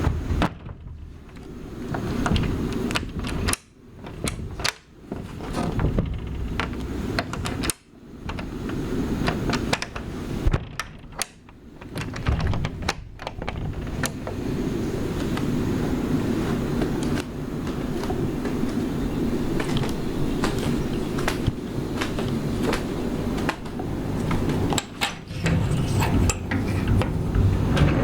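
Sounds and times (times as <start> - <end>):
low rumble of waves: 0.0 - 10.9, 11.6 - 28.0.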